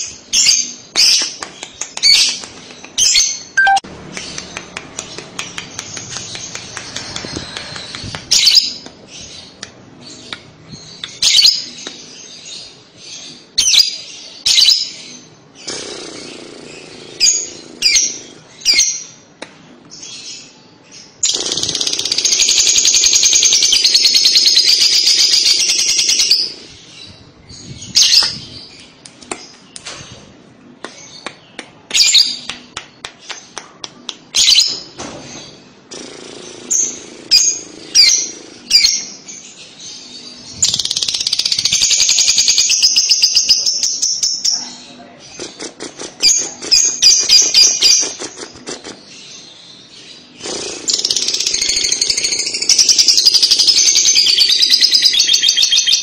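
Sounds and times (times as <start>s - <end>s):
bird chirping: 0.0s - 19.3s, 19.9s - 32.6s, 34.3s - 56.0s.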